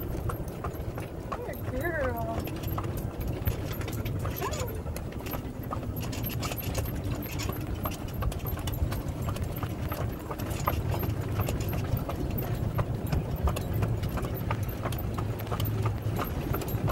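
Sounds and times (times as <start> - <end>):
horse hooves clip-clopping: 0.0 - 16.9.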